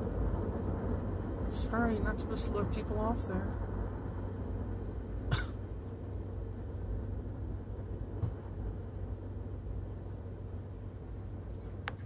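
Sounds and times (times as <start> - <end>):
vehicle rumble inside car: 0.0 - 12.0.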